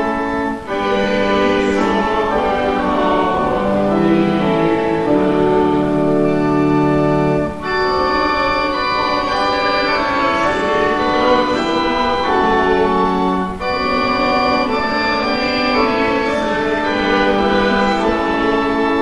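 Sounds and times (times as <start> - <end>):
organ playing slow chords: 0.0 - 19.0.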